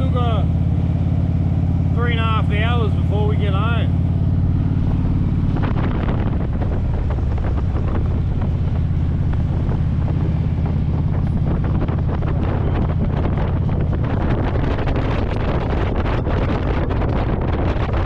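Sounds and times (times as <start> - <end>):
motorcycle engine droning: 0.0 - 18.0
wind rushing over microphone: 0.0 - 18.0.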